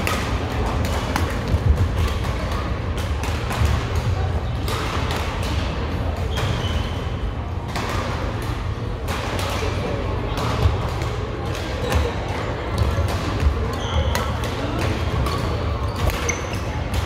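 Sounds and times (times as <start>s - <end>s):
people talking: 0.0s - 17.0s
rackets hitting shuttlecock: 0.0s - 17.0s.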